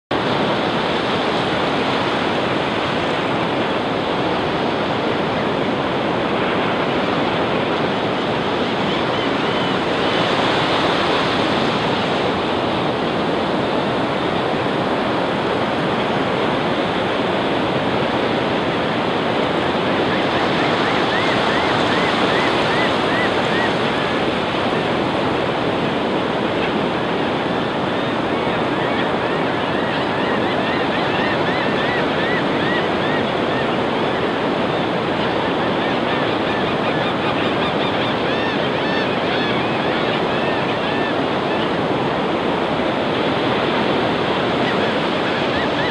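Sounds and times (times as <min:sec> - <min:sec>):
surf washing onto beach: 0:00.2 - 0:45.9.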